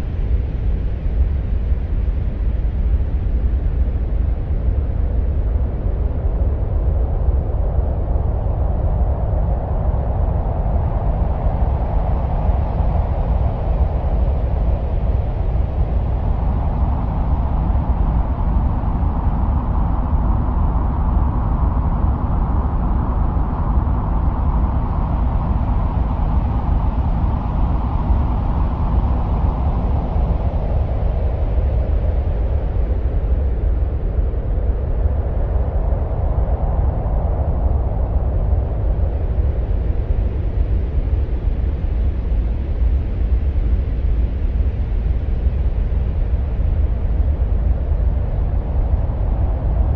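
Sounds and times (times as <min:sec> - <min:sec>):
rushing wind: 0:00.0 - 0:49.9.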